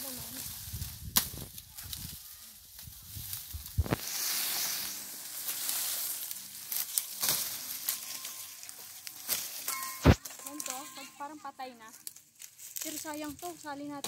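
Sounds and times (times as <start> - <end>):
dry leaves crackling underfoot: 0.0 - 14.0.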